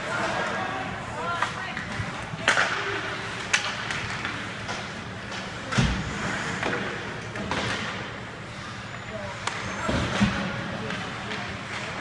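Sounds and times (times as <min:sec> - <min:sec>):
arena noise: 0:00.0 - 0:12.0.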